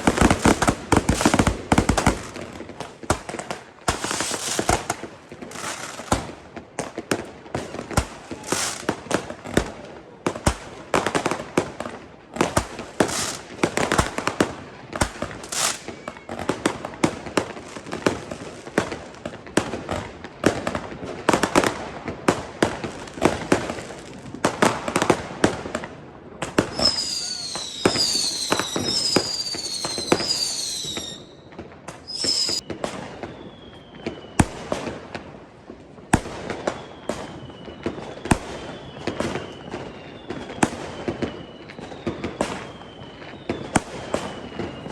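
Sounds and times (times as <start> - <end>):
firecrackers bursting: 0.0 - 44.9
whistling fireworks: 0.0 - 44.9.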